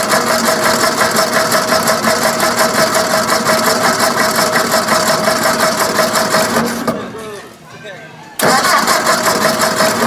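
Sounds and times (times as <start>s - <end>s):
car engine idling: 0.0s - 7.2s, 8.4s - 10.0s.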